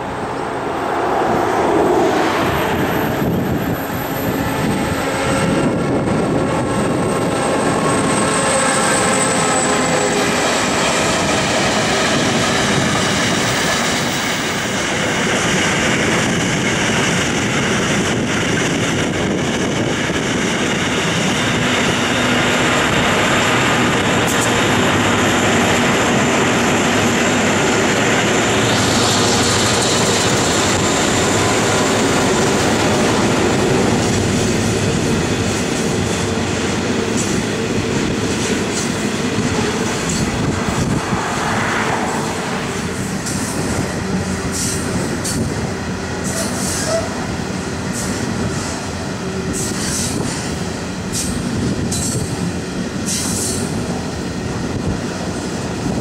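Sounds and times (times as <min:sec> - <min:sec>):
diesel locomotive engine drone: 0:00.0 - 0:56.0
train wagons rolling on rails: 0:00.0 - 0:56.0.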